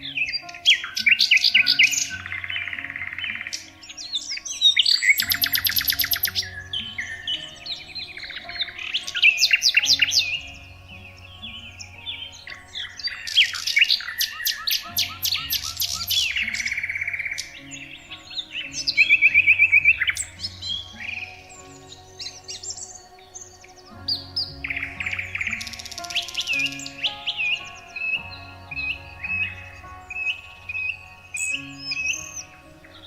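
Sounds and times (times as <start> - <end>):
songbirds calling and singing: 0.0 - 33.0.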